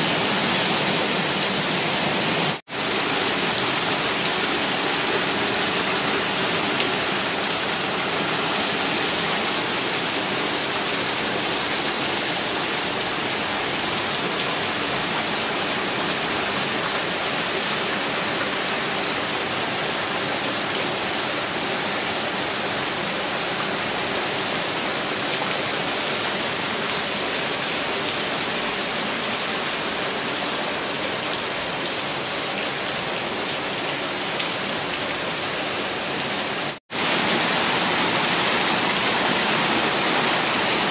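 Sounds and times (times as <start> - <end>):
heavy rain: 0.0 - 40.9
rushing water: 0.0 - 40.9.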